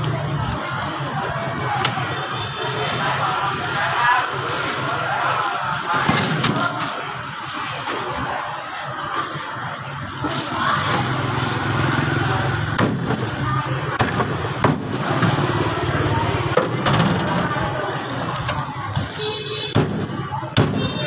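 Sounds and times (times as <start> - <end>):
engine humming: 0.0 - 20.8.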